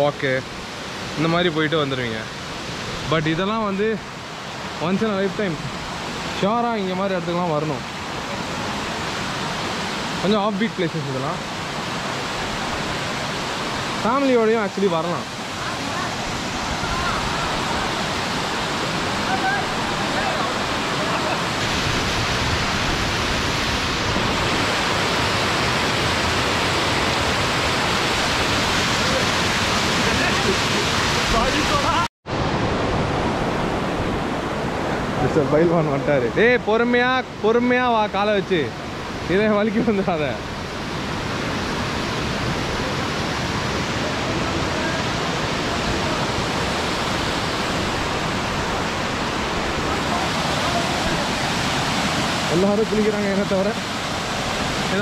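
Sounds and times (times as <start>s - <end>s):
large waterfall pouring: 0.0s - 55.0s.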